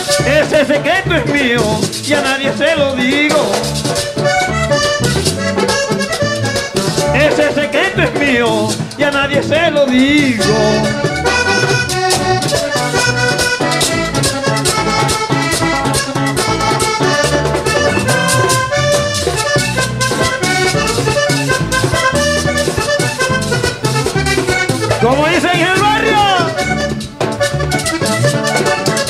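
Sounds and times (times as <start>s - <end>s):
button accordion playing quick notes: 0.0s - 2.6s, 3.3s - 29.0s
bass guitar: 0.0s - 29.0s
hand-drum and percussion beat: 0.0s - 29.0s.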